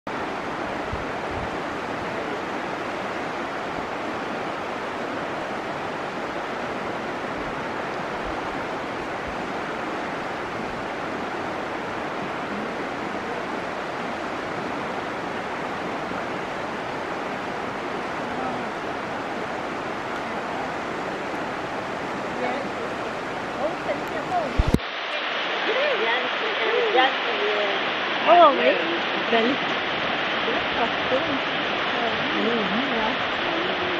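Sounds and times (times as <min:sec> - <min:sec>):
river water rushing over rocks: 0:00.1 - 0:33.9.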